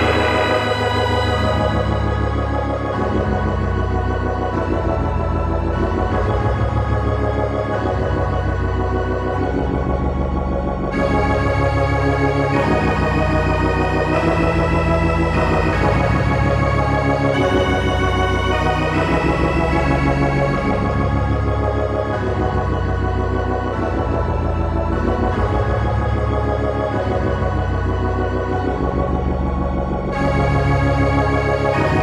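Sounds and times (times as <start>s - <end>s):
long low bass notes: 0.0s - 32.0s
slow synthesizer chords: 0.0s - 32.0s.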